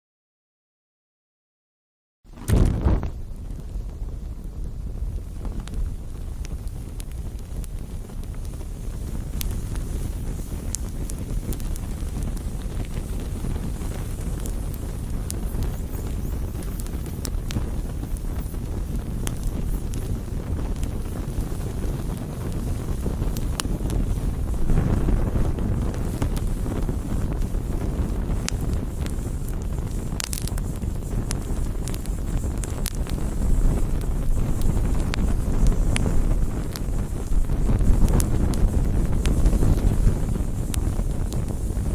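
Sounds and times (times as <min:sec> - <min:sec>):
burning wood crackling: 0:02.3 - 0:41.9
low rushing fire noise: 0:02.3 - 0:41.9.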